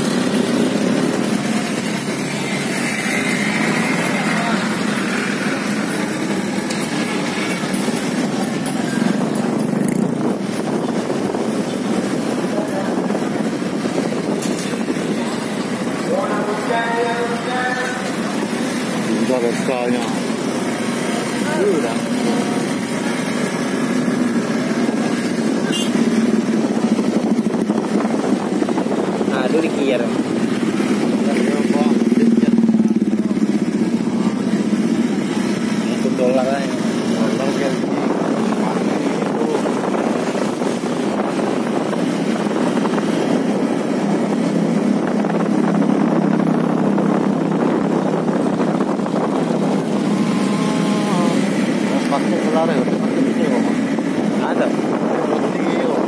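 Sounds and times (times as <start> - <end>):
road and wind noise: 0.0 - 56.0
small motorcycle engine running: 0.0 - 56.0
street traffic: 0.0 - 56.0.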